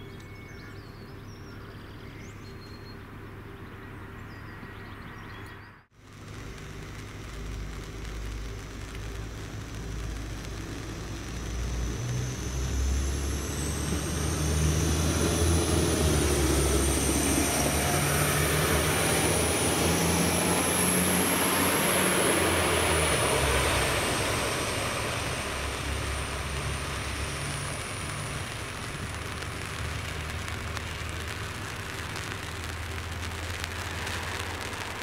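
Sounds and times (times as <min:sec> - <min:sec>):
diesel train passing with whining engine: 0:02.9 - 0:35.0.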